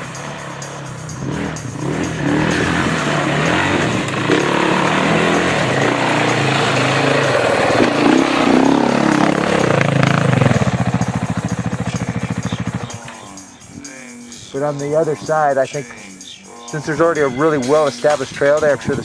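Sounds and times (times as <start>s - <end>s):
motorcycle engine running: 0.0s - 15.5s
music: 0.0s - 19.0s.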